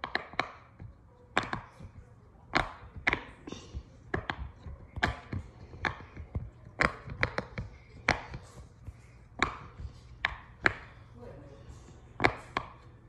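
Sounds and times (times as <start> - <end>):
fidget toy bubbles popping: 0.0 - 11.0.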